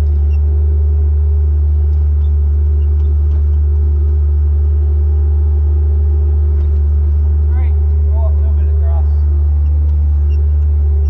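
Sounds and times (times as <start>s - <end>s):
loader engine running: 0.0s - 11.0s.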